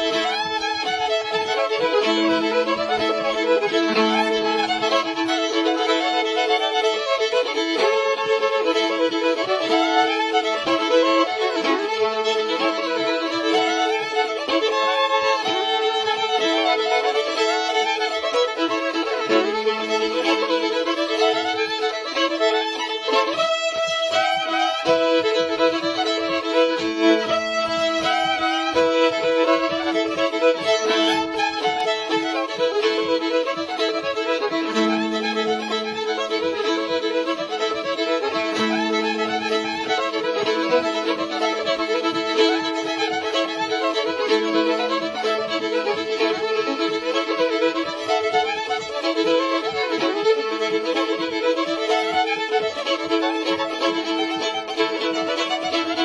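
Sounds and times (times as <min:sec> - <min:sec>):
fiddle melody with drones: 0:00.0 - 0:56.0
string band playing: 0:00.0 - 0:56.0.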